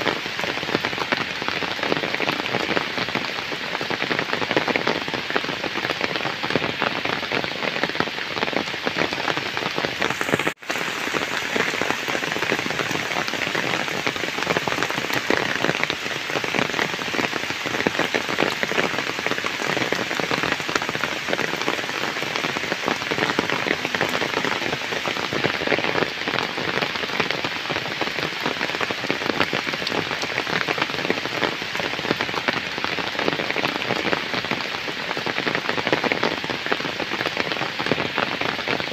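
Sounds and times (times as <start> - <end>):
heavy rain on puddles: 0.0 - 38.9.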